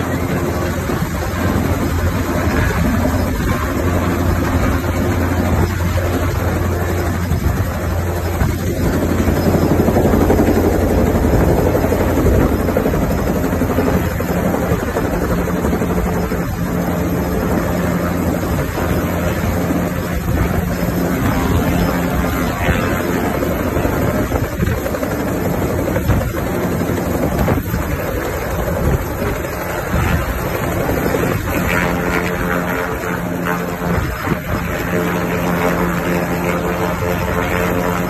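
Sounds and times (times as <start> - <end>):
helicopter rotor beat: 0.0 - 38.0.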